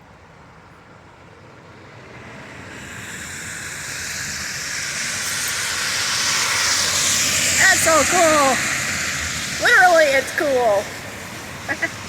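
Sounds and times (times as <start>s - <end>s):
tyres hissing on slushy road: 0.2s - 12.0s.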